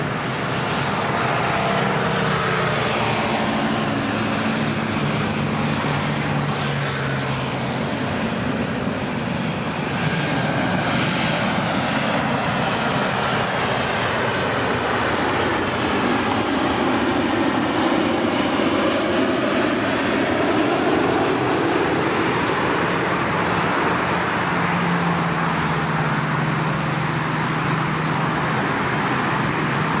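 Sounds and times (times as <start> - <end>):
jet engines roaring past: 0.0 - 30.0.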